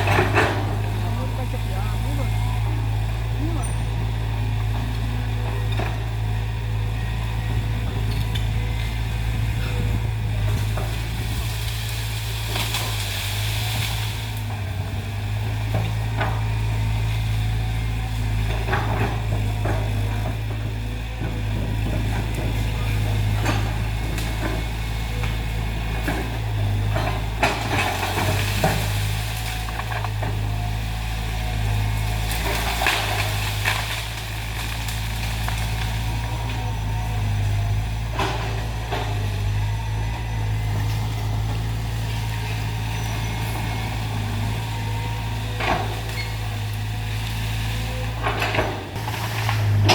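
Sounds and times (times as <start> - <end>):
branches cracking and snapping: 0.0 - 49.9
excavator diesel engine: 0.0 - 49.9.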